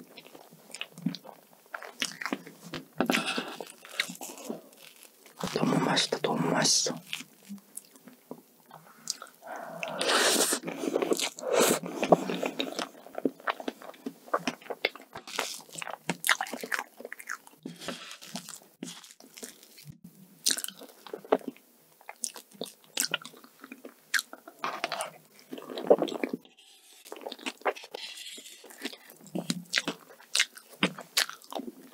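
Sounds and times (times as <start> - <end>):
wet chewing: 0.2 - 5.4, 8.7 - 31.8.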